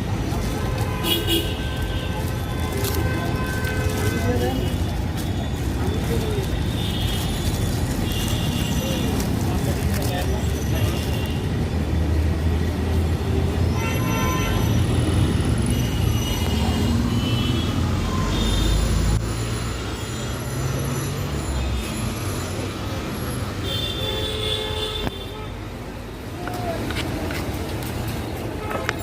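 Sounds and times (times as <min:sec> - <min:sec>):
traffic engine rumble: 0:00.0 - 0:29.0.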